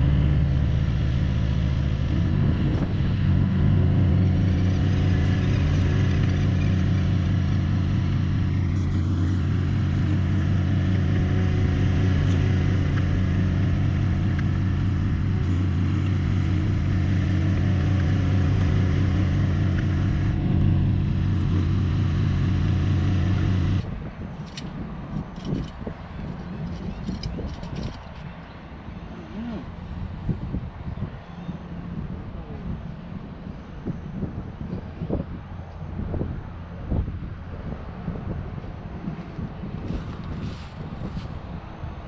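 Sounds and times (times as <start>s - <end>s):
engine running steadily: 0.0s - 42.0s.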